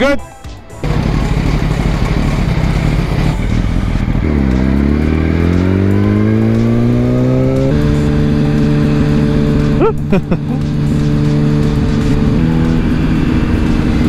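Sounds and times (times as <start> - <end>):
motorcycle engine under load: 0.8 - 14.0.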